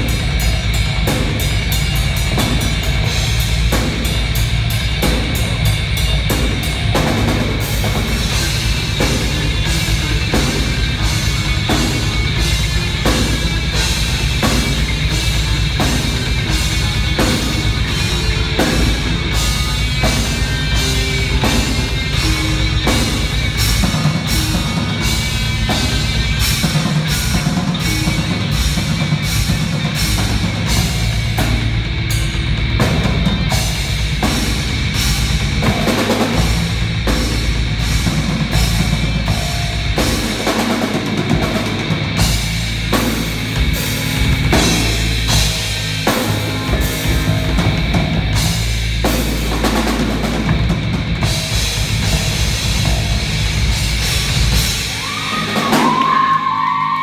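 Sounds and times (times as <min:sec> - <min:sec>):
bass guitar: 0:00.0 - 0:57.0
distorted electric guitars: 0:00.0 - 0:57.0
drum kit beat: 0:00.0 - 0:57.0.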